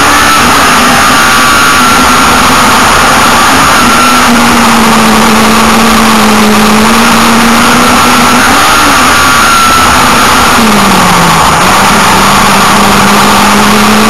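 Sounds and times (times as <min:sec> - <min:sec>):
car engine at high revs: 0:00.0 - 0:14.0
wind and road noise: 0:00.0 - 0:14.0.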